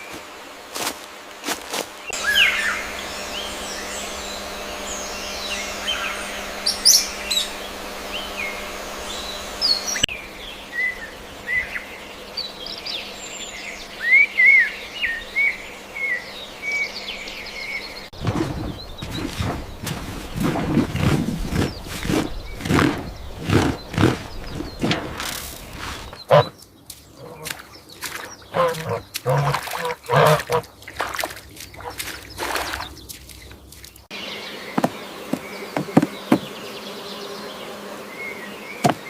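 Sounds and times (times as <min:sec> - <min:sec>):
small birds chirping: 0:02.0 - 0:39.0.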